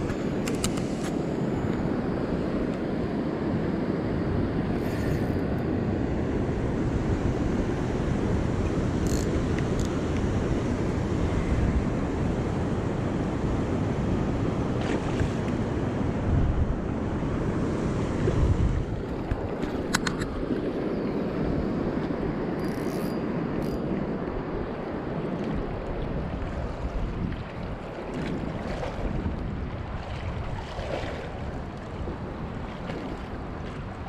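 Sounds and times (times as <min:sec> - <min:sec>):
wind buffeting microphone: 0:03.2 - 0:22.6, 0:23.2 - 0:34.0.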